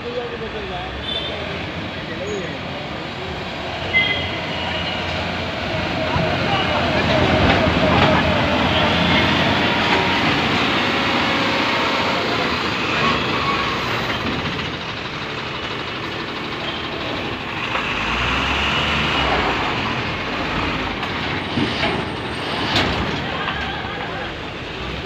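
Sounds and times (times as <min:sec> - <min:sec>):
diesel truck engine driving past: 0:01.5 - 0:25.0.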